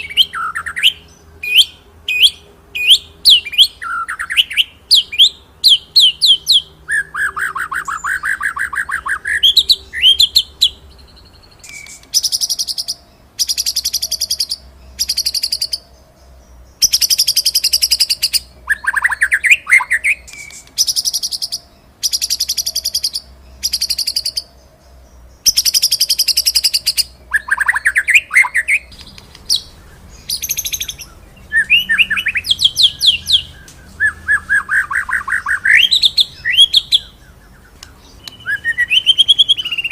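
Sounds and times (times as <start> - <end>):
bird whistled phrases: 0.0 - 15.9, 16.8 - 24.5, 25.4 - 39.9
bird rattling song: 0.0 - 39.9.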